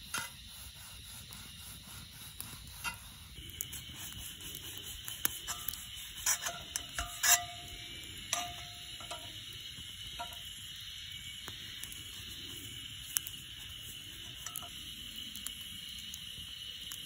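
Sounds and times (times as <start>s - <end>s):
campfire crackling and popping: 0.0s - 17.0s
high insect drone: 0.0s - 17.0s.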